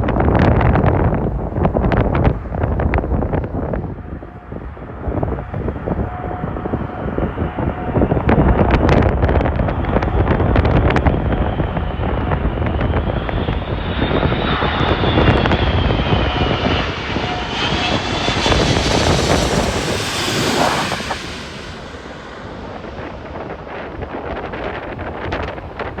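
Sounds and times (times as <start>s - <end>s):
jet engines passing: 0.0s - 26.0s
wind buffeting microphone: 0.0s - 26.0s
high engine whine: 0.1s - 26.0s.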